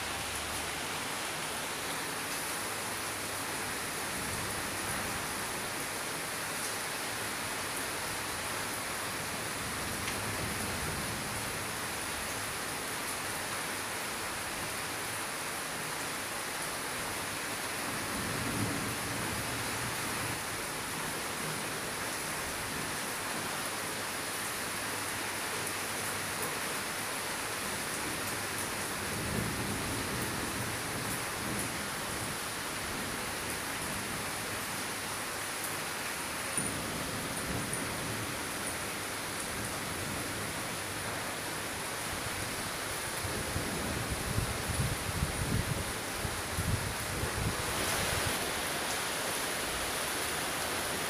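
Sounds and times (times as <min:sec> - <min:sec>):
steady rainfall: 0:00.0 - 0:51.0.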